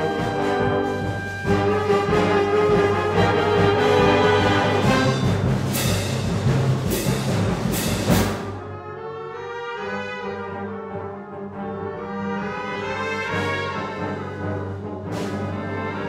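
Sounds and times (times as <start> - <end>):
wind band playing: 0.0 - 16.0.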